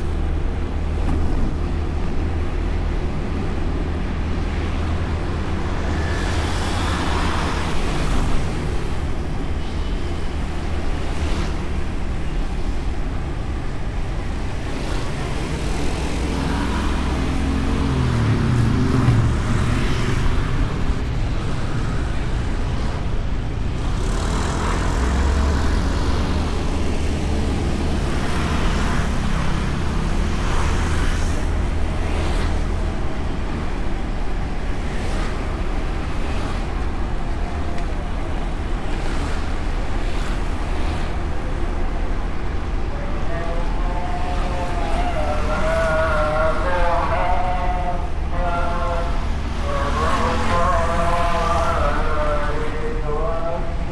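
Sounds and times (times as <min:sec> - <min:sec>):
road and wind noise: 0:00.0 - 0:53.9.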